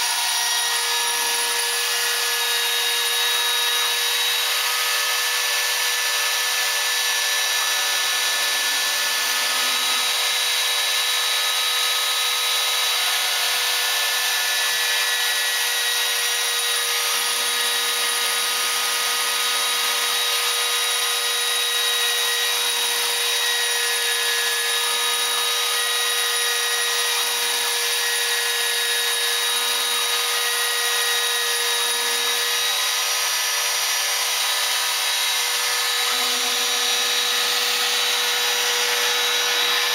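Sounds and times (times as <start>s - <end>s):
router spindle whine and hiss: 0.0s - 39.9s.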